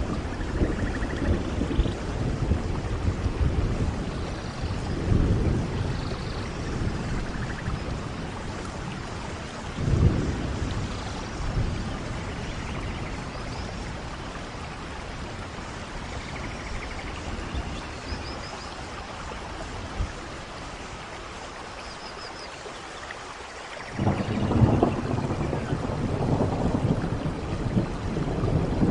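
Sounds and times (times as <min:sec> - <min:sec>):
thunder rumbling: 0:00.0 - 0:18.4, 0:23.9 - 0:28.9
steady rainfall: 0:00.0 - 0:28.9.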